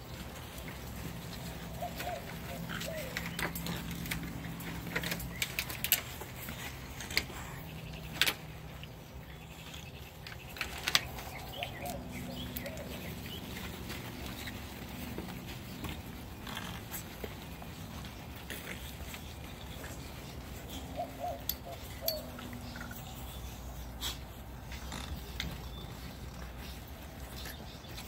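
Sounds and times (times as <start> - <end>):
puppies playing: 0.0 - 28.0.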